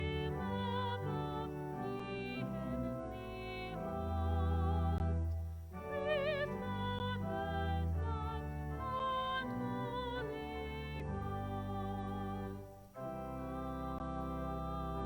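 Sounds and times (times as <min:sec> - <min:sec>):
slow classical music: 0:00.0 - 0:15.0.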